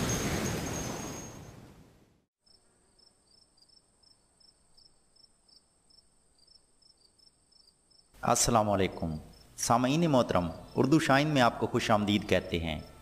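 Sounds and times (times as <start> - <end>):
crickets chirping: 2.4 - 13.0.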